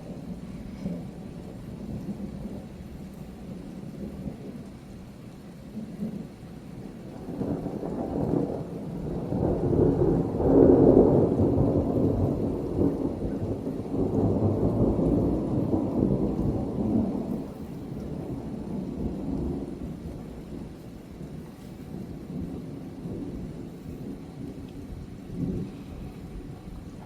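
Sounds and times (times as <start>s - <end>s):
rolling thunder rumble: 0.0s - 27.0s
steady rain: 0.0s - 27.0s.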